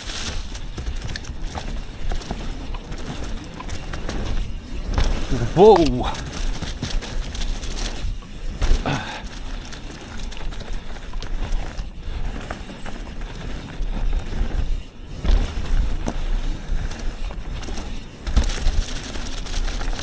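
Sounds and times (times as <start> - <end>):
bike knocking and rattling: 0.0 - 20.0
tyre and wind rush: 0.0 - 20.0.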